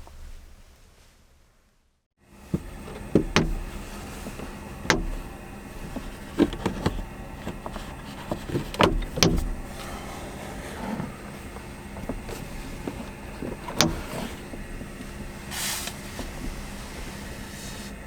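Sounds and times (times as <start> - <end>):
steady low hum: 2.3 - 18.0.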